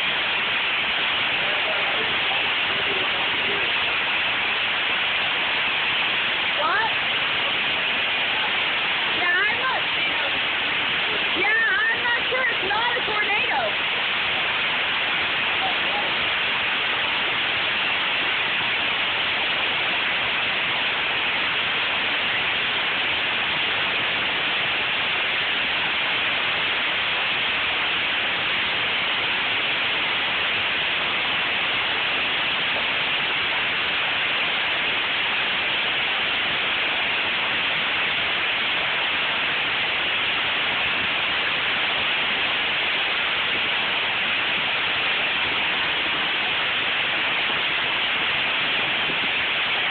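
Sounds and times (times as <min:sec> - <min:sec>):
torrential rain: 0:00.0 - 0:49.9.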